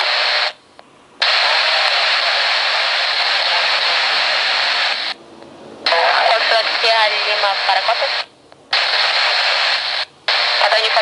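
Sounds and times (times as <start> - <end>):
radio static hiss: 0.0 - 0.6, 1.2 - 5.2, 5.8 - 11.0.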